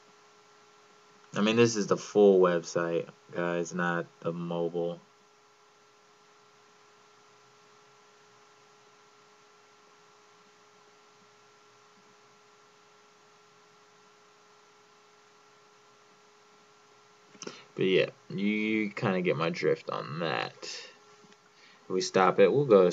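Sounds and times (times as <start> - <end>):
faint steady hiss: 0.0 - 22.9
thin electrical hum: 0.0 - 22.9.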